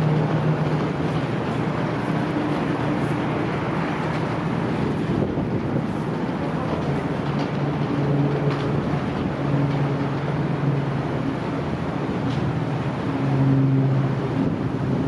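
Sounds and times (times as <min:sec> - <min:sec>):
ship diesel engines humming: 0:00.0 - 0:15.0
wind noise: 0:00.0 - 0:15.0.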